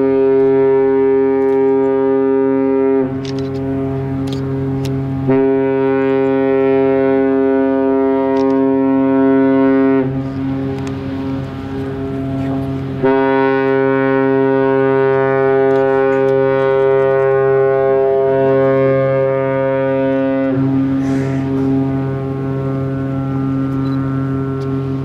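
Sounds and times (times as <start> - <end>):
deep ship horn note: 0.0 - 25.0
loud ship horn blast: 0.0 - 25.0.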